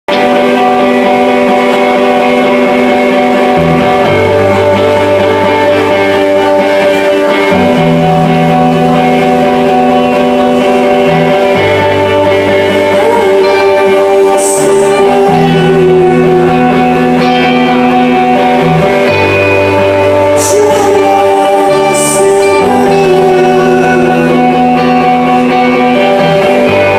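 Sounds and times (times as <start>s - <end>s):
live rock band playing: 0.1s - 26.9s.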